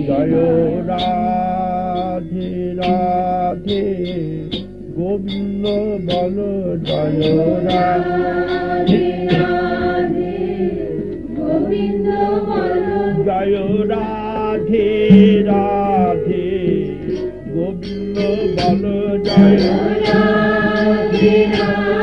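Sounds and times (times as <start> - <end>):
voices singing a chant: 0.0 - 22.0.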